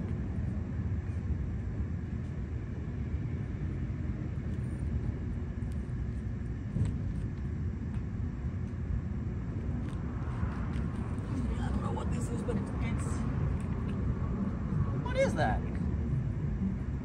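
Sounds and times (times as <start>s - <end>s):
road rumble inside car: 0.0s - 17.0s.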